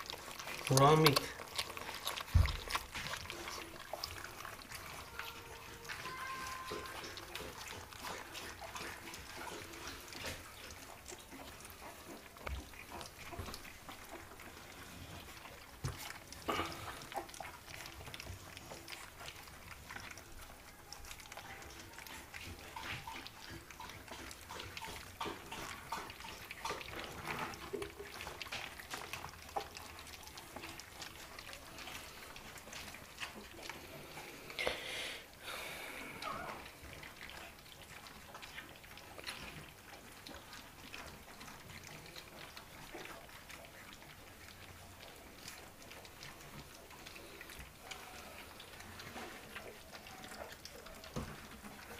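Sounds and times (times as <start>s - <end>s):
puppies eating wet smacking: 0.0s - 51.9s.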